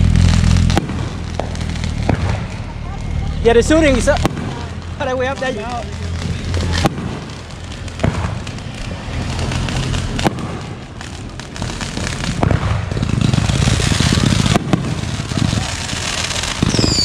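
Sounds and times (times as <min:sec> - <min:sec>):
low rumble: 0:00.0 - 0:16.9
firework shells bursting: 0:00.0 - 0:17.0
rapid firework crackling: 0:00.0 - 0:17.0.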